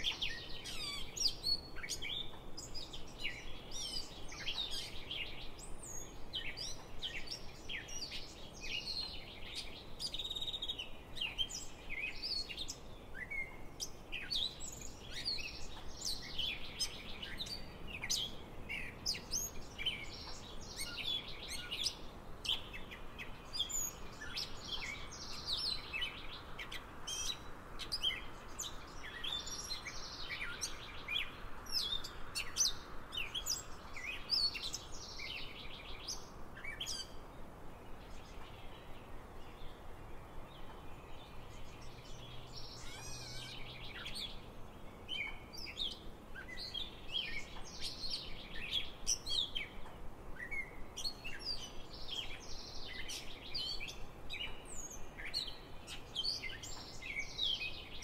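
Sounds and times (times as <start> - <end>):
songbirds chirping and singing: 0.0 - 58.0
steady background hiss: 0.0 - 58.0.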